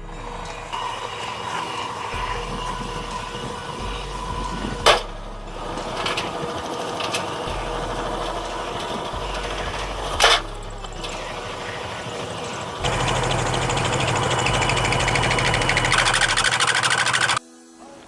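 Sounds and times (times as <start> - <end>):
washing machine motor hum: 0.0 - 17.4
objects rattling in drum: 0.2 - 17.4.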